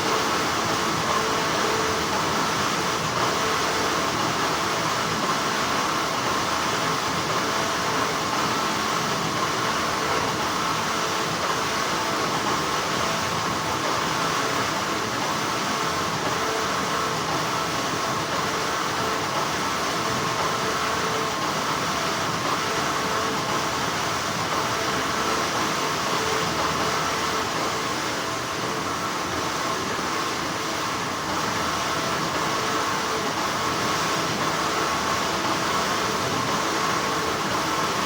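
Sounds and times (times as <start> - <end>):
factory machinery hum: 0.0 - 38.0.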